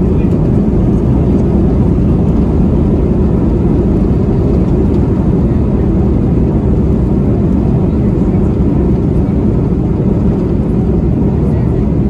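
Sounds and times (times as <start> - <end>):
airplane rolling on runway: 0.0 - 12.0.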